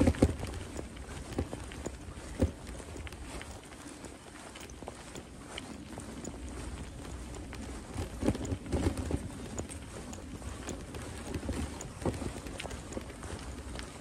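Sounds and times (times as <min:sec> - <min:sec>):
wind rumble on microphone: 0:00.0 - 0:03.7, 0:04.5 - 0:14.0
footsteps on path: 0:00.0 - 0:14.0.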